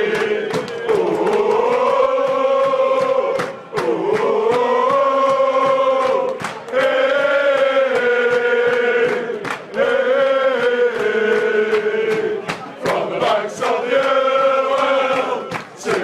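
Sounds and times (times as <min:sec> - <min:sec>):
crowd singing a chant: 0:00.0 - 0:16.0.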